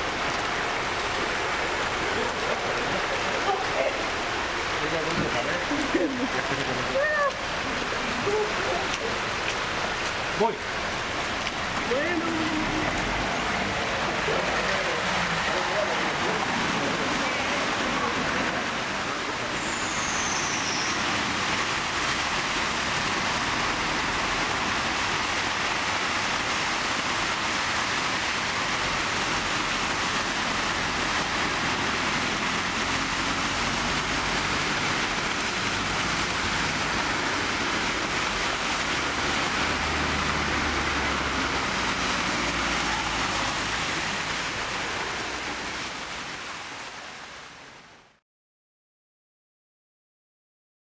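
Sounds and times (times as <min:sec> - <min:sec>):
car engines humming: 0:00.0 - 0:45.9
tyres spraying floodwater: 0:00.0 - 0:48.0.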